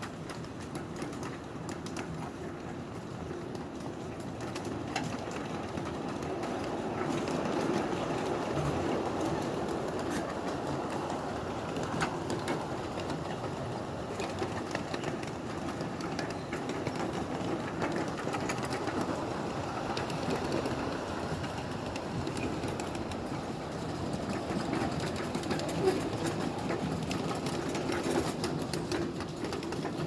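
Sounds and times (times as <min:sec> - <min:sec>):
small clicks and clatter: 0:00.0 - 0:30.0
train wheels rumbling on rail: 0:00.0 - 0:30.0.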